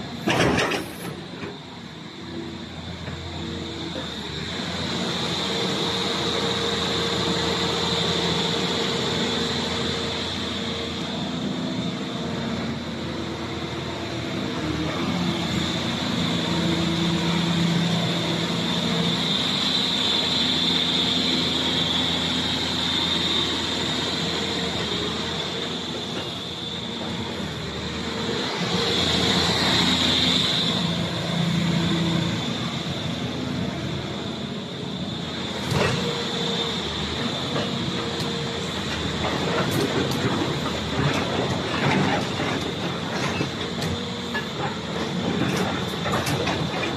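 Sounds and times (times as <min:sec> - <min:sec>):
excavator diesel engine: 0:00.0 - 0:46.9
hydraulic whine: 0:00.0 - 0:46.9.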